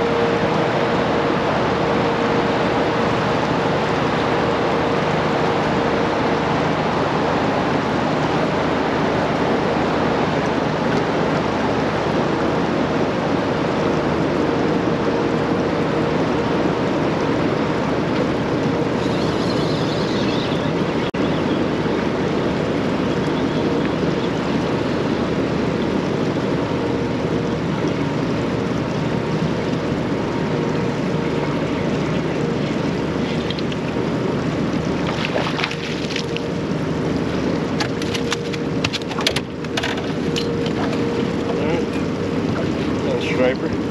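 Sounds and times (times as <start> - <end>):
faint hum: 0.0 - 43.9
rushing river water: 0.0 - 43.9.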